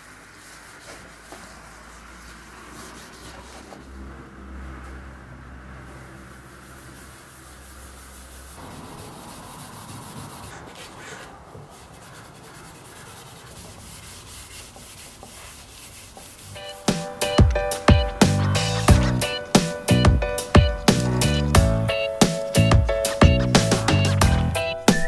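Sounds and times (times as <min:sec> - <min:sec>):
pad rubbing wax into wood: 0:00.0 - 0:04.2, 0:05.8 - 0:25.0.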